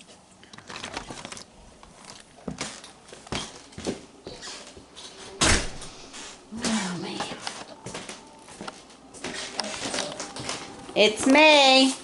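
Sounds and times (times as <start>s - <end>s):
footsteps: 1.9s - 12.0s.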